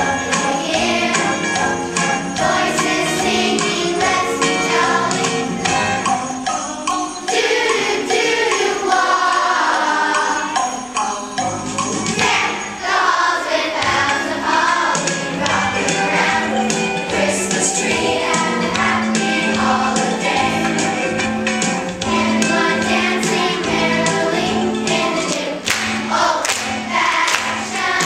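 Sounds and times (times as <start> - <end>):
children's choir singing: 0.0 - 28.0
musical accompaniment: 0.0 - 28.0.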